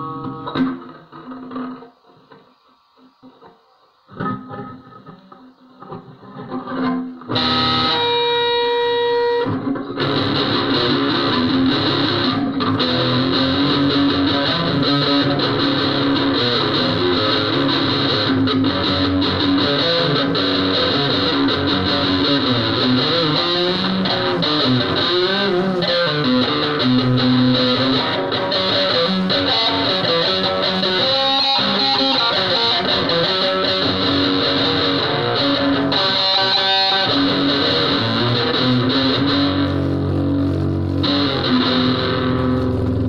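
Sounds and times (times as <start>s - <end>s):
distorted electric guitar: 0.0s - 43.0s.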